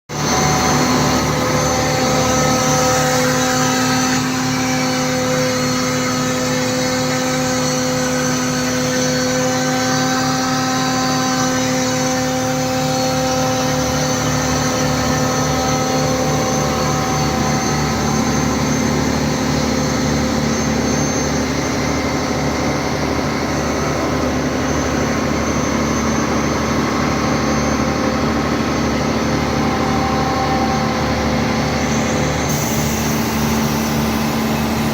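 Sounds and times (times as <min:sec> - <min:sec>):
machinery drone with held tones: 0:00.1 - 0:34.9.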